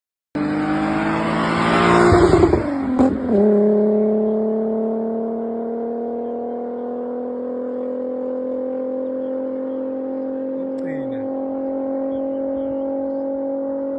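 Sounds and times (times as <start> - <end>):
engine revving hard: 0.4 - 12.2.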